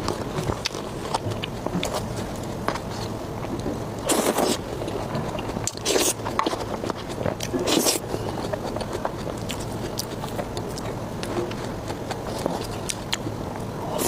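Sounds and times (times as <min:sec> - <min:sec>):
person biting and chewing: 0:00.0 - 0:14.0.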